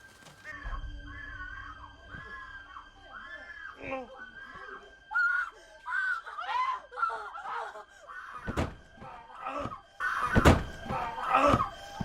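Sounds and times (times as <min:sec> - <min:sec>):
raised voices or cries: 0:00.5 - 0:12.0.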